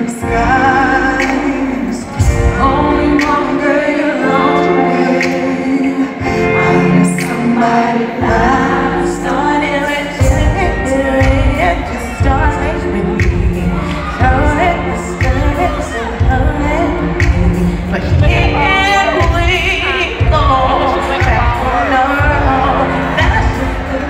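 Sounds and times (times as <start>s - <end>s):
women singing with vibrato: 0.0s - 24.0s.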